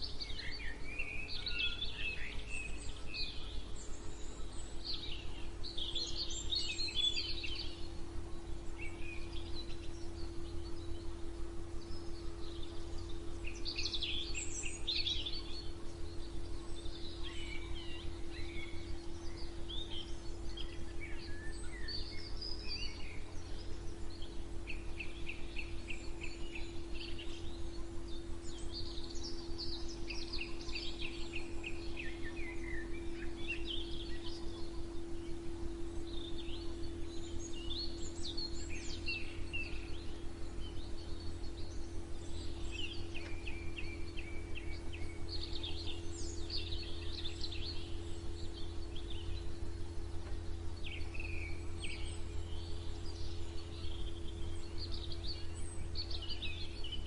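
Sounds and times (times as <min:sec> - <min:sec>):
songbirds chirping and singing: 0:00.0 - 0:57.0
steady low hum: 0:00.0 - 0:57.0.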